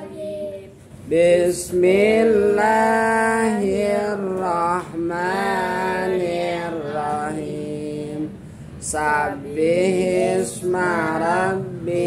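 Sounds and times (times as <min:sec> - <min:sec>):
person chanting recitation: 0:00.0 - 0:12.0.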